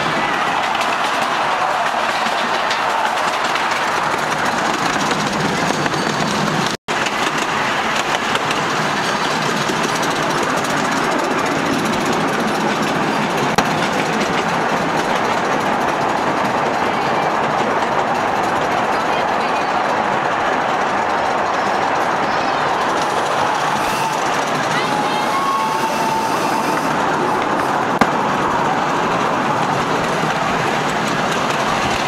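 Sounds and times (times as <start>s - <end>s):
small steam train rolling on track: 0.0s - 32.0s.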